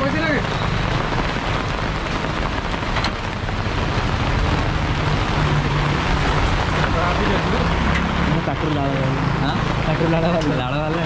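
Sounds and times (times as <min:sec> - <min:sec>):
motorbike traffic on wet road: 0:00.0 - 0:11.0
steady rain: 0:00.0 - 0:11.0.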